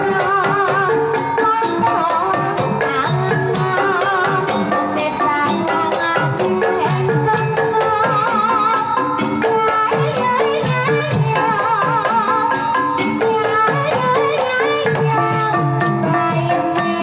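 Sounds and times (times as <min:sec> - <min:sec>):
woman singing wavering melody: 0:00.0 - 0:17.0.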